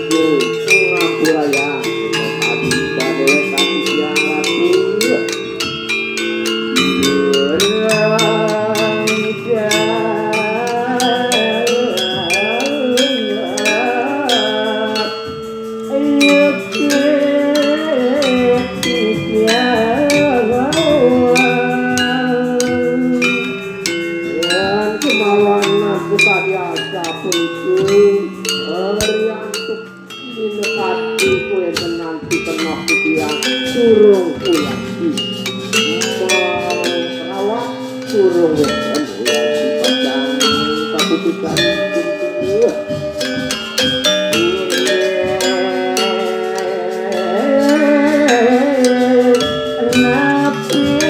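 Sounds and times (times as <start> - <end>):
metallophones struck with mallets: 0.0 - 51.0.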